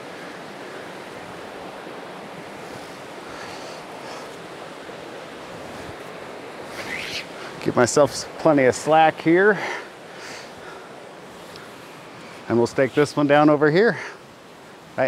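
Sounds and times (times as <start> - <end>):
creek flowing: 0.0 - 15.0.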